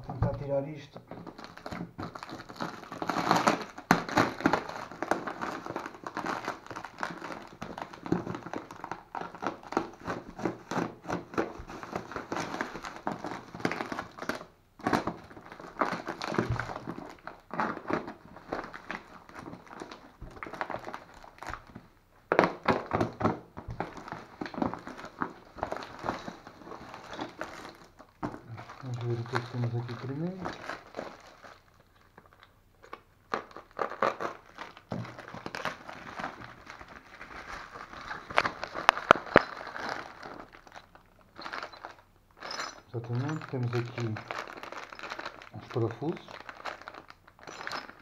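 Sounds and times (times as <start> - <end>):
bubble wrap crinkling: 0.0 - 48.0.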